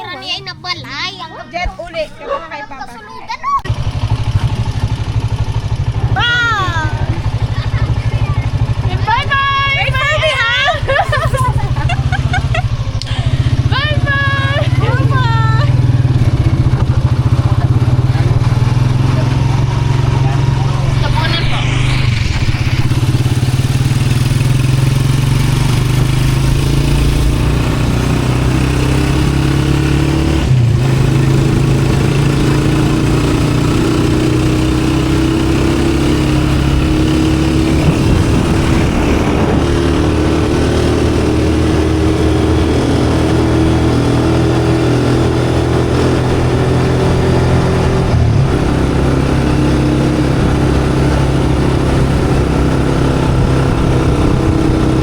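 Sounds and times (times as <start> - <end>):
vehicle engine running: 3.7 - 55.0.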